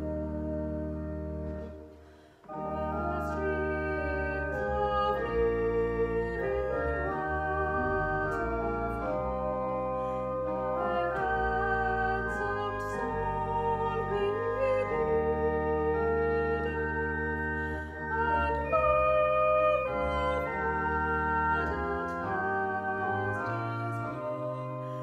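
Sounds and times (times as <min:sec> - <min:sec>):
pipe organ playing hymn chords: 0:00.0 - 0:25.0.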